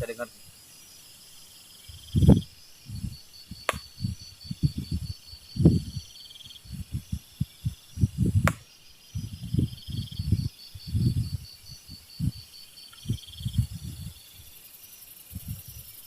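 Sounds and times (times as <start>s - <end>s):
crickets chirping: 0.0s - 16.0s
wind buffeting microphone: 1.9s - 14.6s, 15.3s - 16.0s.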